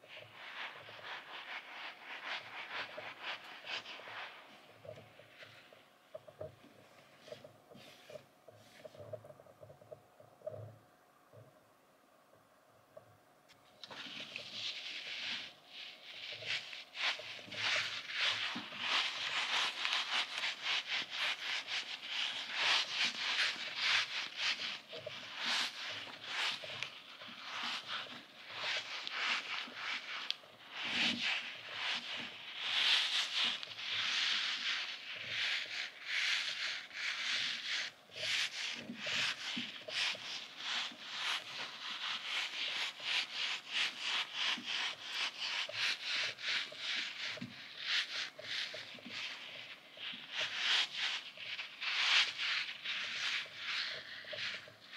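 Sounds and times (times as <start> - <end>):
fingers rubbing soft squeeze toy: 0.0 - 10.8, 13.8 - 54.9.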